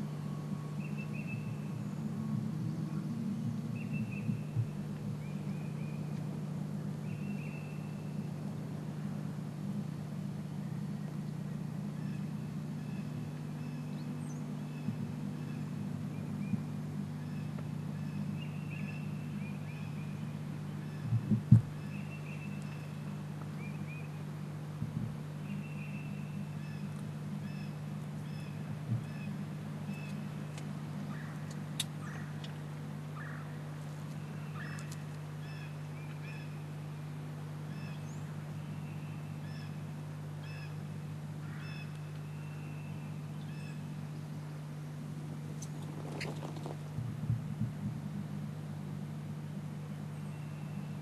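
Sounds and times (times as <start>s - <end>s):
small songbirds chirping: 0.0s - 47.0s, 49.2s - 51.0s
steady low hum: 0.0s - 51.0s.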